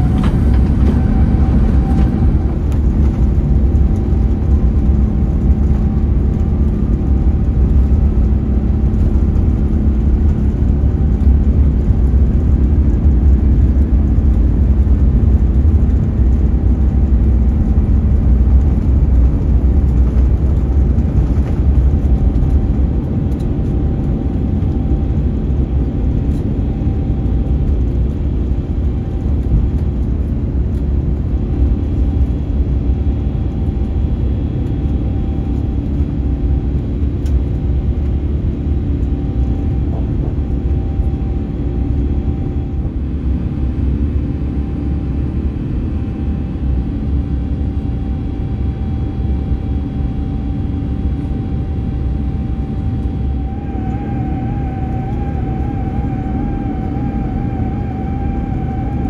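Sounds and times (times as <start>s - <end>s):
heavy rumble of runway roll: 0.0s - 59.0s
jet engines at takeoff thrust: 0.0s - 59.0s.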